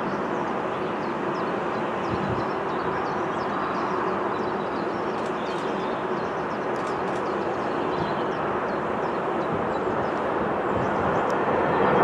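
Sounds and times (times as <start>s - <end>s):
jet engines roaring at takeoff: 0.0s - 12.0s
small birds chirping: 0.1s - 11.3s.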